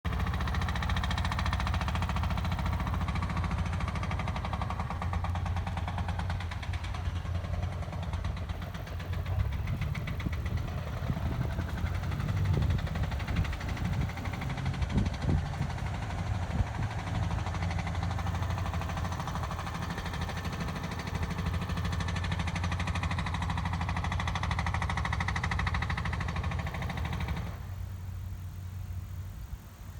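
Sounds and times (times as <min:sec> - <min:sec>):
jackhammer pounding: 0:00.1 - 0:27.7.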